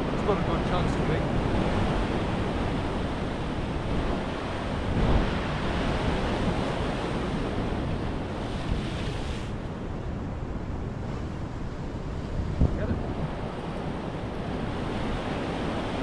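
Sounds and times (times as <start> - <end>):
sea surf on rocky shore: 0.0 - 16.0
wind buffeting microphone: 0.0 - 16.0.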